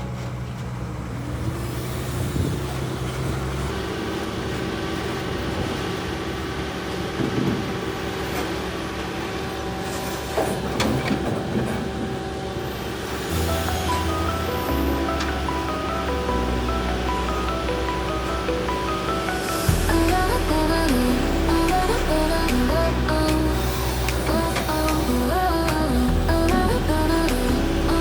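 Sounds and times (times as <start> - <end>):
diesel engine drone with whine: 0.0 - 28.0.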